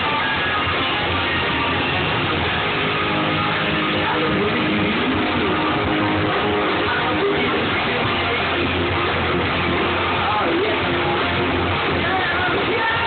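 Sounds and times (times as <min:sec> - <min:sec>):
electric guitars: 0:00.0 - 0:13.0
rock band playing: 0:00.0 - 0:13.0.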